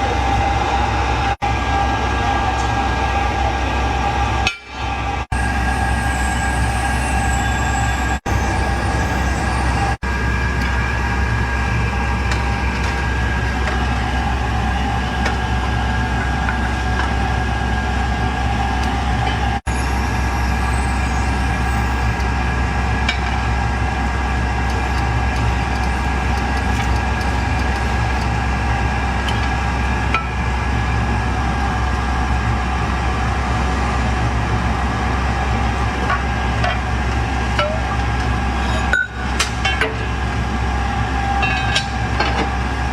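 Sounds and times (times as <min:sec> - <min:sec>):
machine droning with whine: 0:00.0 - 0:42.9.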